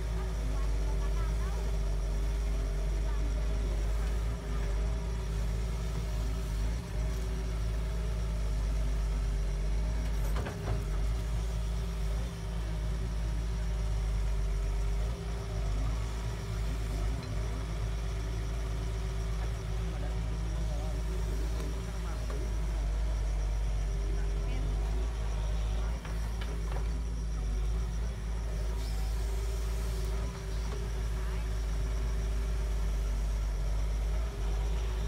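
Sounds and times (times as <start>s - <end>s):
excavator diesel engine rumbling: 0.0s - 35.0s.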